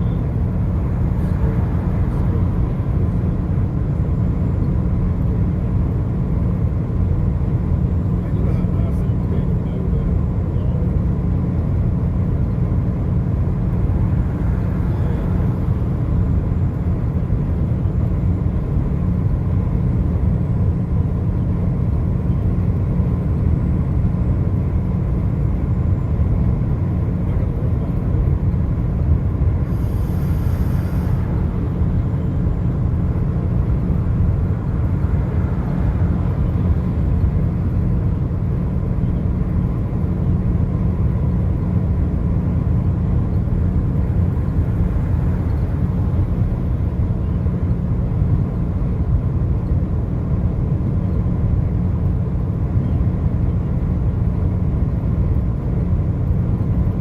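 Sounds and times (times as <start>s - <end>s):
vehicle driving on highway: 0.0s - 57.0s.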